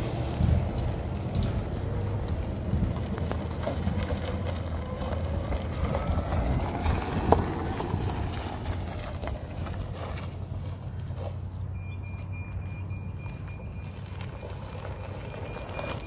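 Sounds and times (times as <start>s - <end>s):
tyres crunching on gravel: 0.0s - 16.0s.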